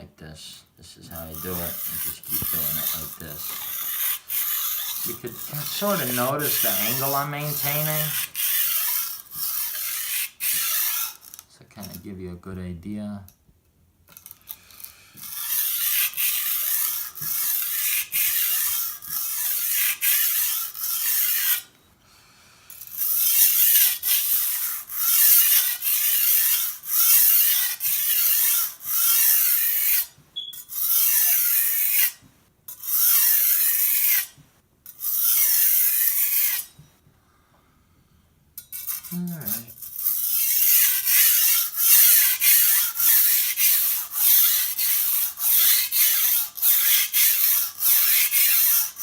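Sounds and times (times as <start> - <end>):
blade scraping on sharpening stone: 1.1 - 12.0, 14.2 - 21.7, 22.8 - 34.3, 34.9 - 36.9, 38.6 - 49.0.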